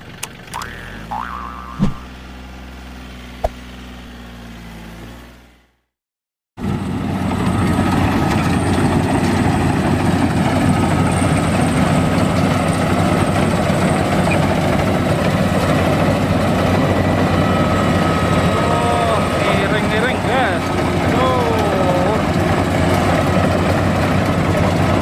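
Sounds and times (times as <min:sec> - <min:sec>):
combine harvester running: 0:00.0 - 0:05.5, 0:06.6 - 0:25.0.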